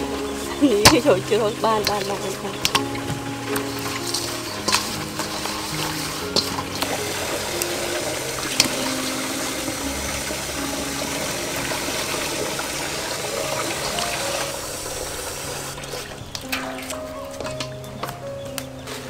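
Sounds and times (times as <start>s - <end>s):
water sloshing in steel basin: 0.0s - 18.2s.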